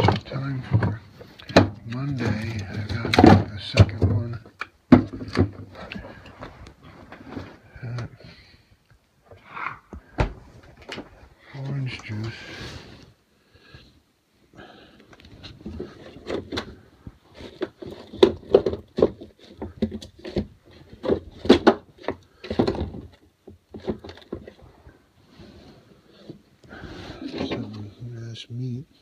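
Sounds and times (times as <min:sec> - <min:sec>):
handling noise on phone microphone: 0:00.0 - 0:07.7, 0:09.9 - 0:13.2, 0:15.2 - 0:28.0.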